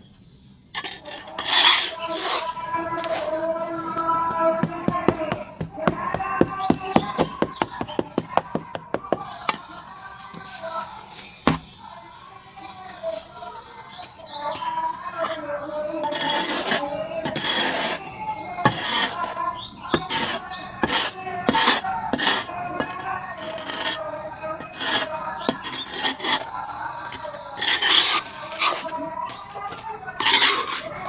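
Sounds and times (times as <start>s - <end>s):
charcoal scraping: 0.8s - 9.7s, 11.4s - 11.8s, 15.2s - 31.0s.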